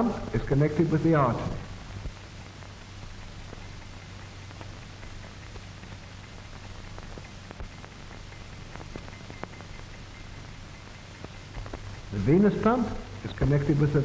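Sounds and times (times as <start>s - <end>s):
crackles and pops: 0.0s - 14.0s
film soundtrack hiss: 0.0s - 14.0s
low hum: 0.0s - 14.0s.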